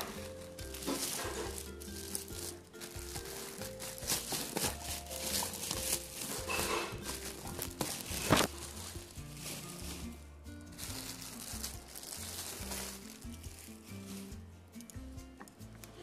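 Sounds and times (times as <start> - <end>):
plastic bag crinkling: 0.0 - 14.4
background music: 0.0 - 16.0.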